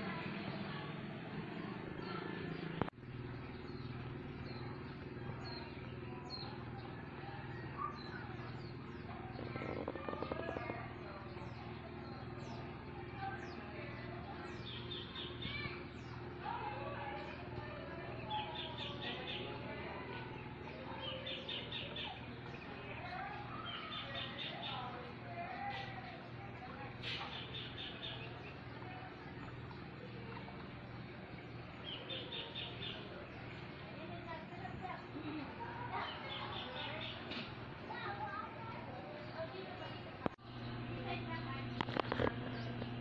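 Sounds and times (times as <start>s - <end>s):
steady low hum: 0.0s - 43.0s
small birds chirping: 1.6s - 43.0s.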